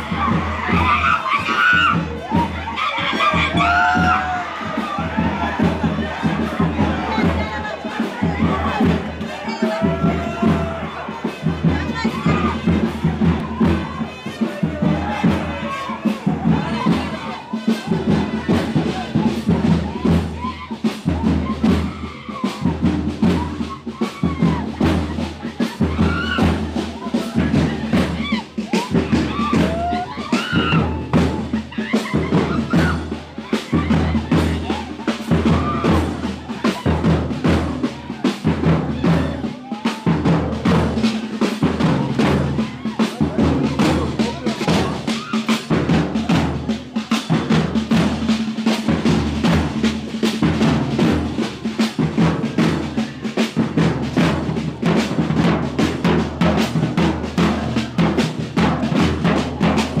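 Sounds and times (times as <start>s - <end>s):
rapid continuous drumming: 0.0s - 60.0s
deep low drum beat: 1.7s - 60.0s.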